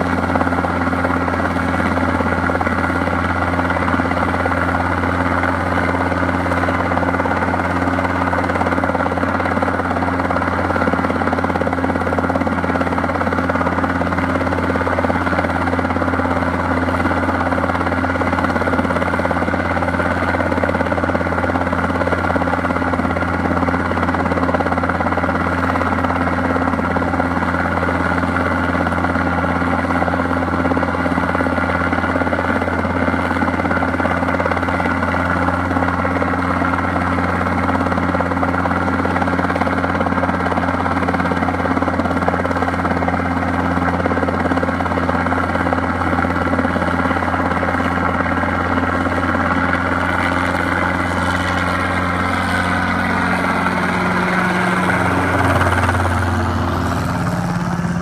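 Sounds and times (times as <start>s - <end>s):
helicopter hovering: 0.0s - 58.0s.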